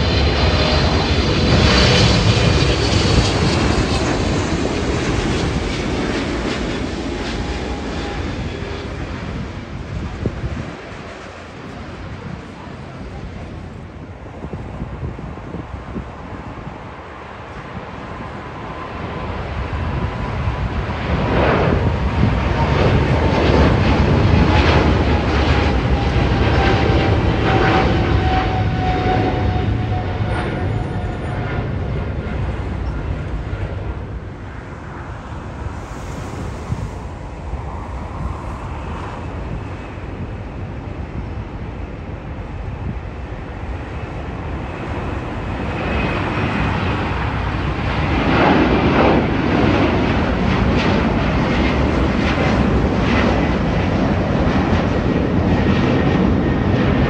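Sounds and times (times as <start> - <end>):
jet airliner engine whine: 0.0 - 57.0.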